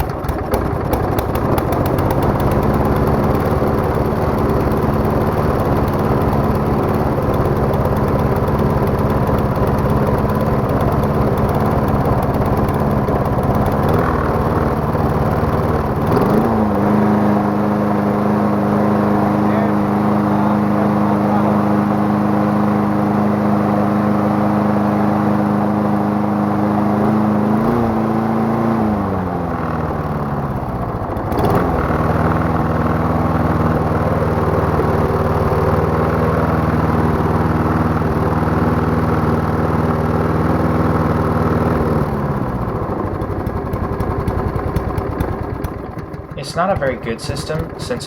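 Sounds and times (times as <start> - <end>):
lawn mower engine running: 0.0 - 48.0.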